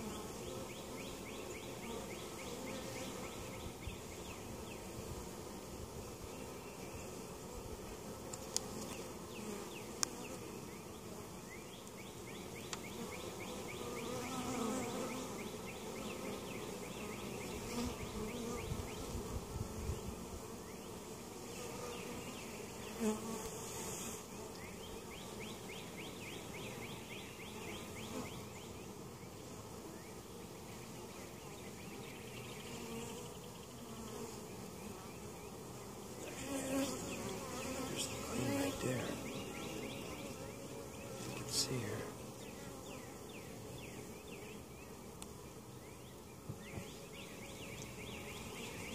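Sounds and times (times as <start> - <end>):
honey bees buzzing: 0.0 - 48.9.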